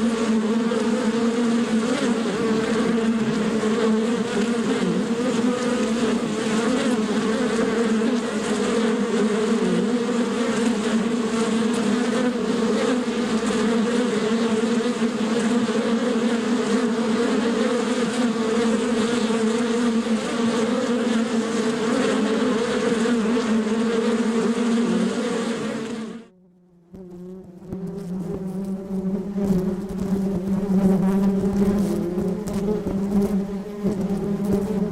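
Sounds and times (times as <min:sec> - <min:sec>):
honey bees buzzing: 0:00.0 - 0:34.9.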